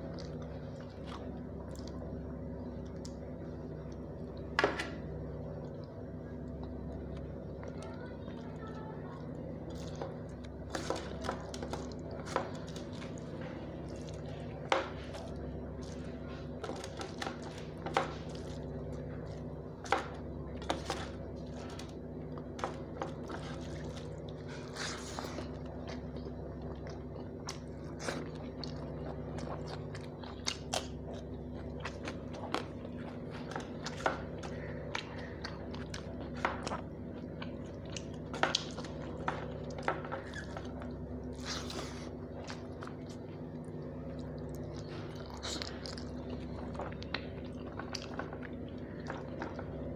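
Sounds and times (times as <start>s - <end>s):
chewing with wet smacks: 0.0s - 49.9s
steady low hum: 0.0s - 49.9s.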